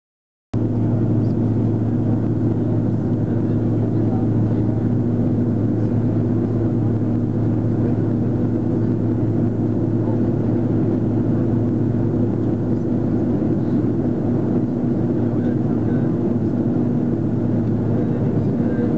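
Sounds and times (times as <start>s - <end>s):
airliner engine drone: 0.6s - 18.9s.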